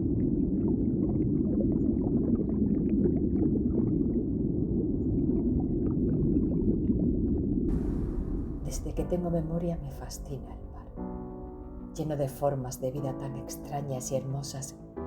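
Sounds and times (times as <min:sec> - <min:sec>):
underwater low rumble: 0:00.0 - 0:13.8.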